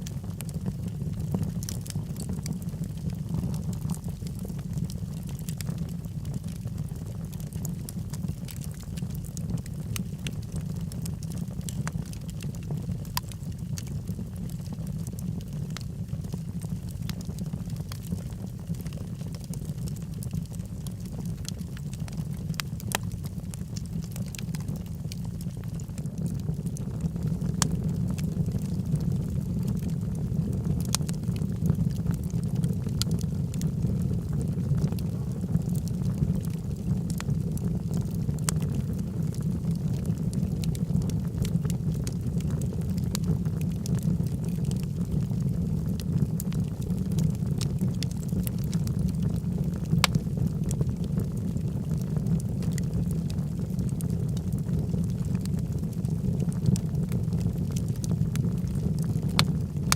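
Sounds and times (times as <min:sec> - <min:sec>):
fire crackles and pops: 0:00.0 - 0:59.9
log fire rumbling: 0:00.0 - 0:59.9.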